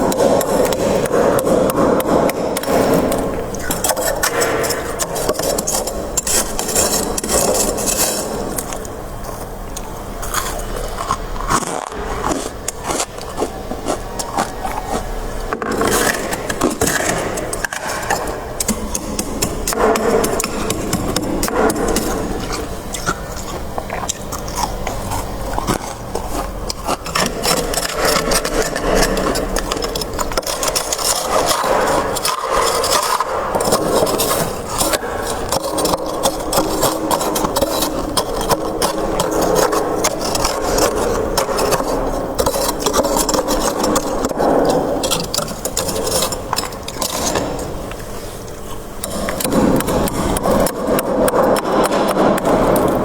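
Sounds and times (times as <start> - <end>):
frost crunching and scraping: 0.0 - 53.0.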